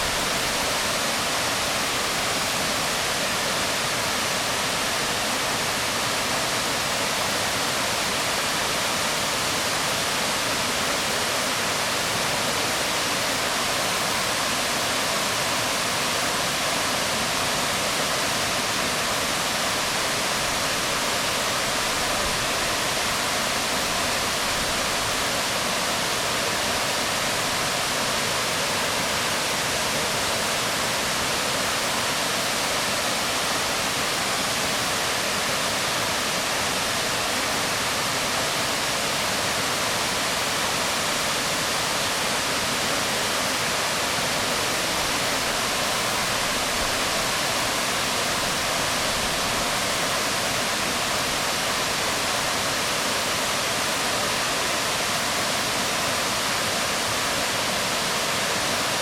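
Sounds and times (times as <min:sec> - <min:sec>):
waterfall onto rocks: 0:00.0 - 0:59.0.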